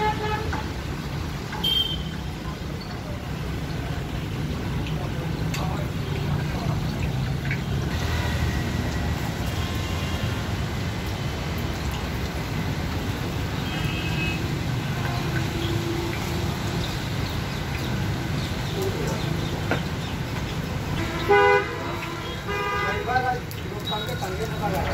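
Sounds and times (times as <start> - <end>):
oil sizzling deep-frying: 0.0 - 24.9.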